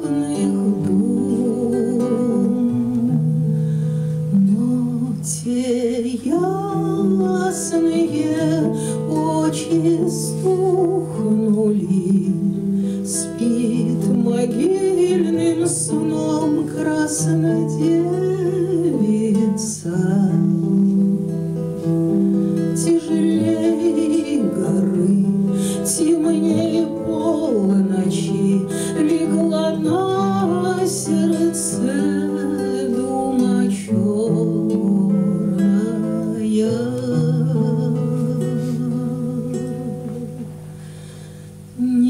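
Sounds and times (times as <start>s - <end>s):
woman singing: 0.0s - 40.7s, 41.7s - 42.0s
classical guitar: 0.0s - 42.0s.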